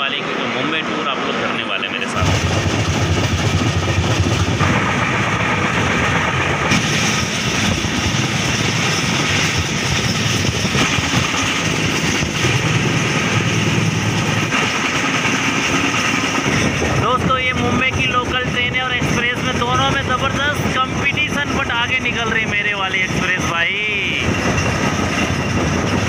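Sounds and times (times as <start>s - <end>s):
train passing: 0.0s - 26.0s
train rumbling at speed: 0.0s - 26.0s.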